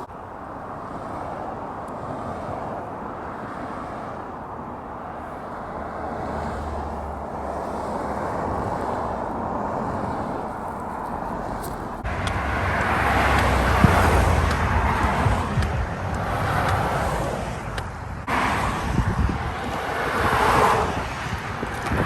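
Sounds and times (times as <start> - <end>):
highway traffic passing: 0.0 - 22.0
vehicle passing close: 0.0 - 22.0.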